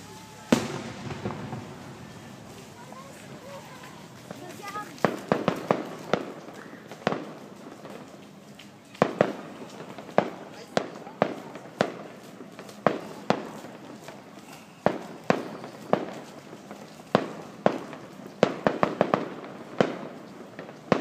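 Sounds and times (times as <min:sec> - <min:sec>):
firework bangs: 0:00.0 - 0:08.2, 0:09.0 - 0:21.0
fireworks crackling: 0:00.0 - 0:21.0.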